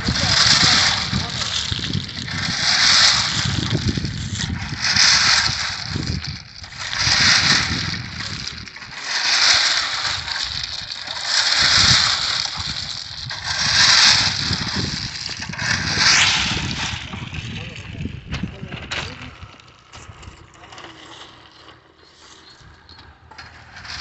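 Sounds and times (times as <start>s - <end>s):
spade-hoe scraping ballast stones: 0.0s - 24.0s.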